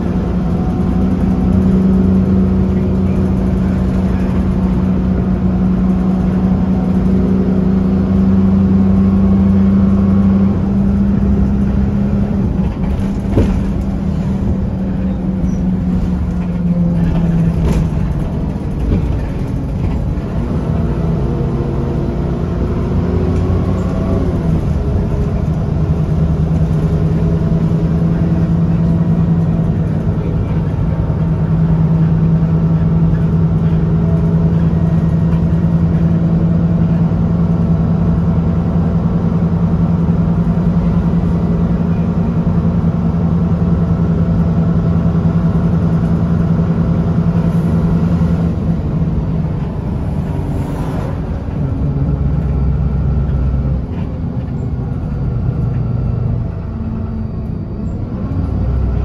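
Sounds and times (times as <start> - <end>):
bus diesel engine droning: 0.0 - 59.0.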